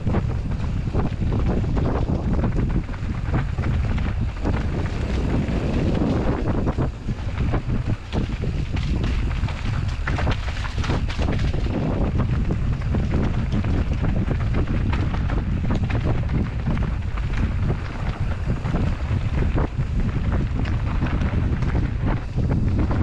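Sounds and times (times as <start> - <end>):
bike rattling over rough ground: 0.0 - 23.0
wind buffeting microphone: 0.0 - 23.0.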